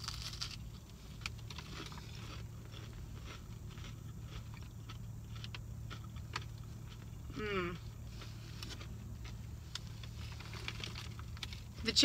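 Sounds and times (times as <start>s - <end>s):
crunchy bite and chewing: 0.0s - 11.7s
low steady hum: 0.0s - 12.0s.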